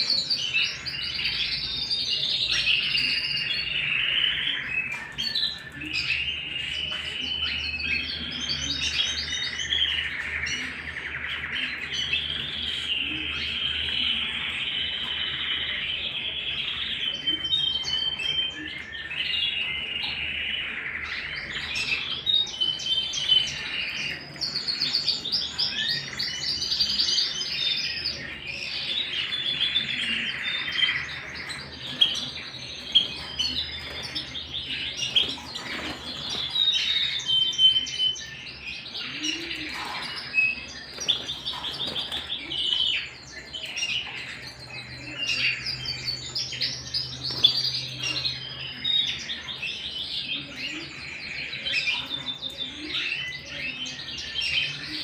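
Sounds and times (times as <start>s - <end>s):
canaries singing trills: 0.0s - 55.0s.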